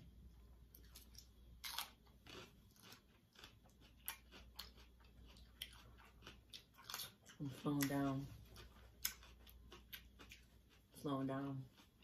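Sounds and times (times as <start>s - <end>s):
chewing and crunching food: 0.2s - 12.0s.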